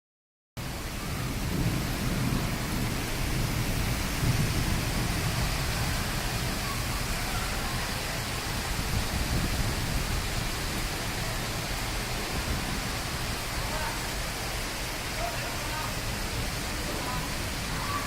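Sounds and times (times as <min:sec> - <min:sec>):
heavy rain pouring: 0:00.6 - 0:18.0.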